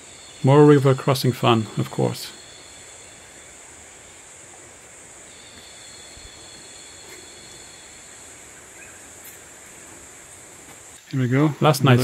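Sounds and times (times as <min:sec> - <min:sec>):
thin insect tones: 0:00.0 - 0:11.2
even hiss: 0:00.0 - 0:12.0
high insect drone: 0:00.0 - 0:12.0.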